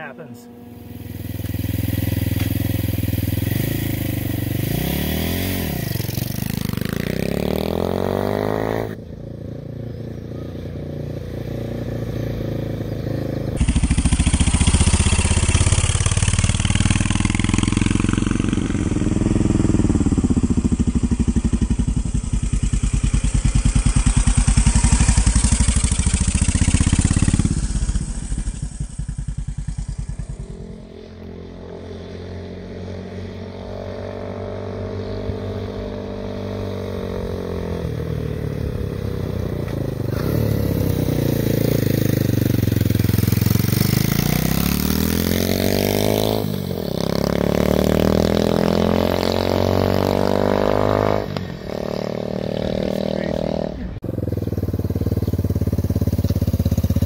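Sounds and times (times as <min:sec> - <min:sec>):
motorcycle engine running: 0:00.0 - 0:31.9, 0:35.2 - 0:57.0.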